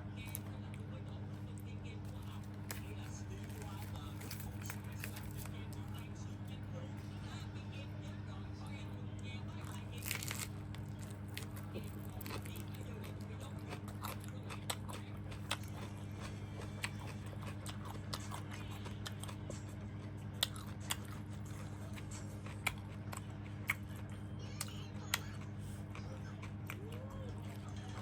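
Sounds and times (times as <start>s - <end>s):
steady low hum: 0.0s - 28.0s
chewing and biting food: 0.2s - 6.6s, 9.4s - 28.0s.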